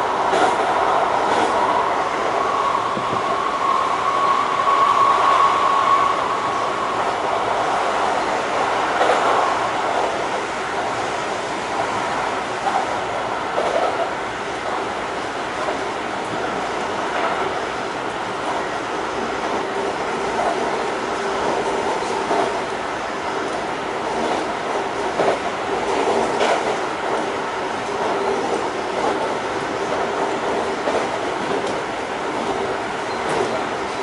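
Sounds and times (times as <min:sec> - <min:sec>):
wheels rushing on rail: 0:00.0 - 0:34.0
rail joint clicks: 0:00.1 - 0:34.0.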